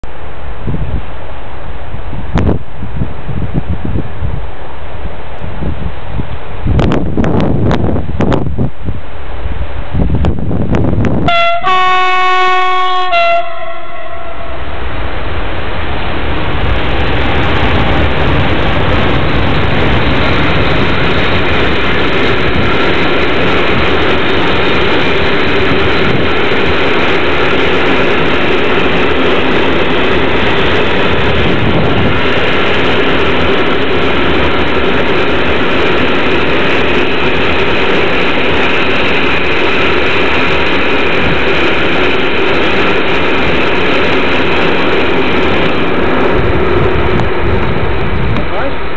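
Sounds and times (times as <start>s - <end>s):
train wheels rolling on rail: 0.0s - 48.9s.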